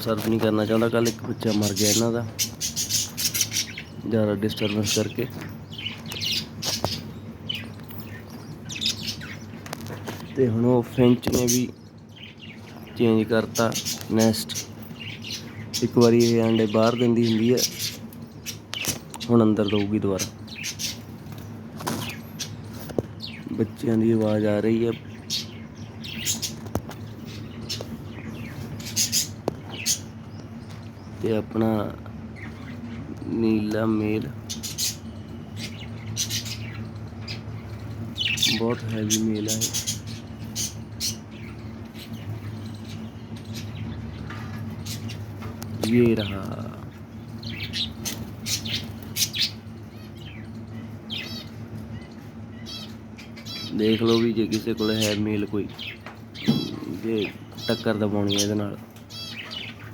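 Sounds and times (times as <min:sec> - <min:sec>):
chicks begging chirps: 0:00.0 - 0:59.9
low steady hum: 0:00.0 - 0:59.9.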